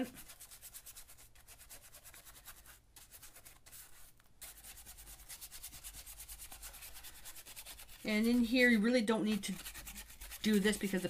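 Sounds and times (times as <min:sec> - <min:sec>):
paintbrush scrubbing on paper: 0:00.0 - 0:11.0.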